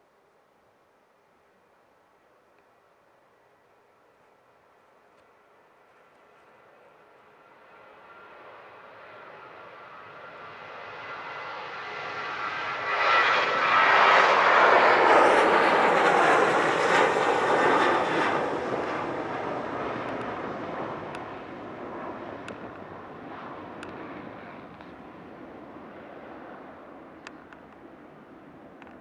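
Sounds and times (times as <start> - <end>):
jet airliner passing: 5.4 - 29.0.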